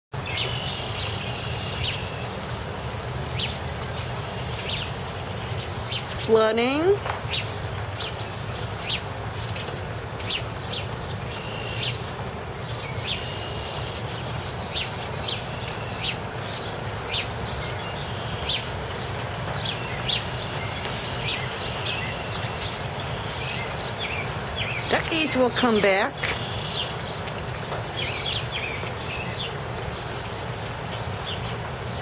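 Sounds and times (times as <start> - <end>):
outdoor hiss: 0.2 - 32.0
small birds chirping: 0.2 - 32.0.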